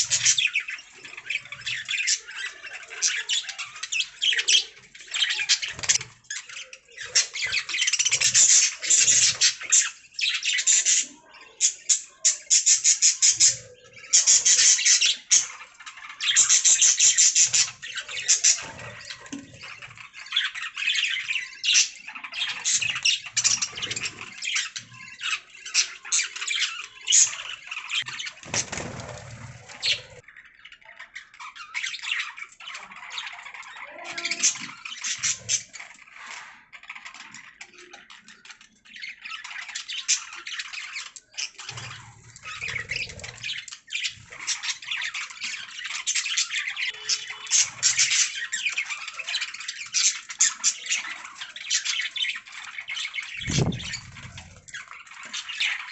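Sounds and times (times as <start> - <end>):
budgerigars chirping and warbling: 0.0 - 55.9.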